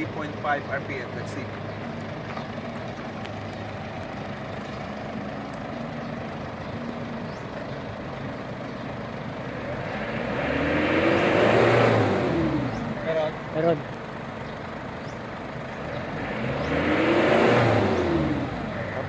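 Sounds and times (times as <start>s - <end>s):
diesel engine idling and revving: 0.0s - 19.0s.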